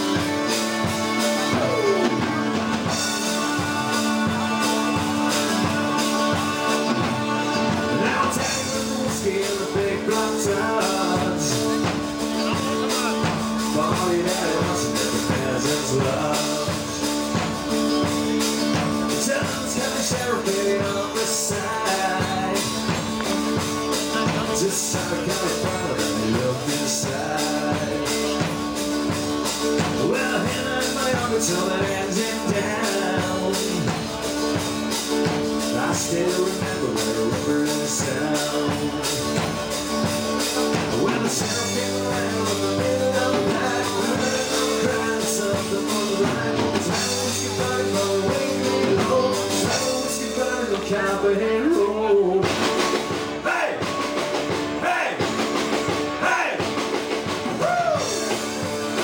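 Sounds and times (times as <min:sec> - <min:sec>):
live country band playing: 0:00.0 - 0:59.0.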